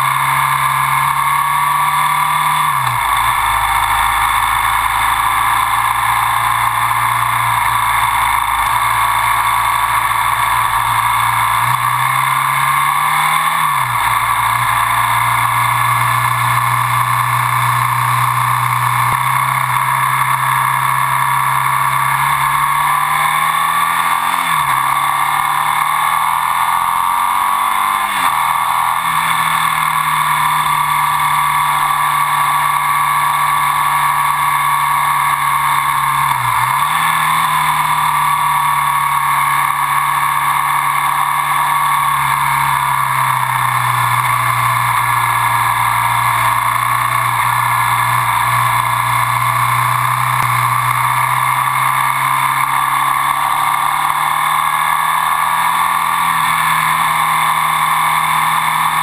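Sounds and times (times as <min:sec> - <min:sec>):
motorcycle engine running: 0:00.0 - 0:59.0
steady rush of noise: 0:00.0 - 0:59.0.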